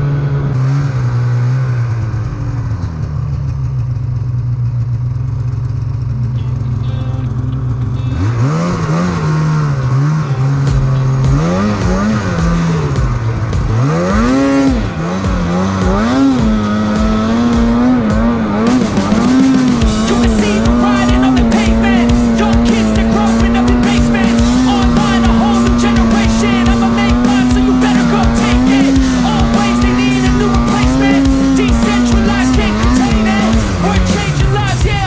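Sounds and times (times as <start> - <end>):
snowmobile engine revving: 0.0 - 35.0.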